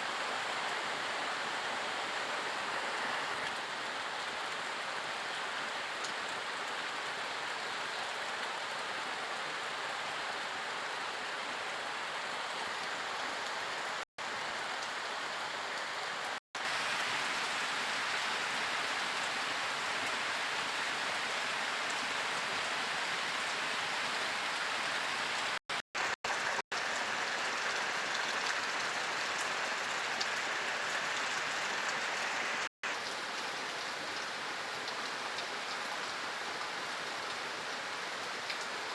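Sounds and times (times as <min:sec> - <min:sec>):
heavy rain falling: 0:00.1 - 0:38.9.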